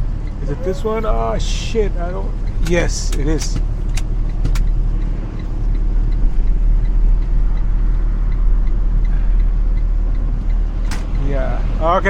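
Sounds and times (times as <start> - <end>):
diesel engine rumbling: 0.0 - 12.0
faint regular ticking: 0.0 - 12.0.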